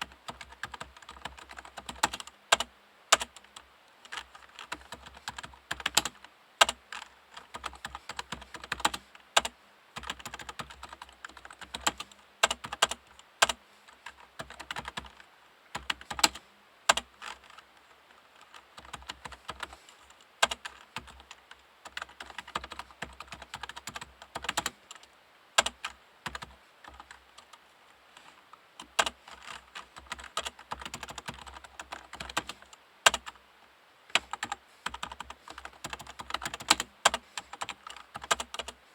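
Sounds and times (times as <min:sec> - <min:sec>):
soft keyboard keystrokes: 0:00.0 - 0:15.2, 0:15.8 - 0:17.6, 0:18.4 - 0:27.6, 0:28.2 - 0:33.4, 0:34.1 - 0:38.8.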